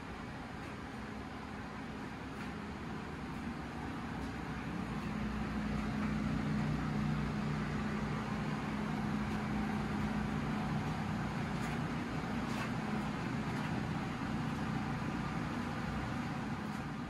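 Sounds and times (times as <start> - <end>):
laundry machines humming: 0.0 - 17.0.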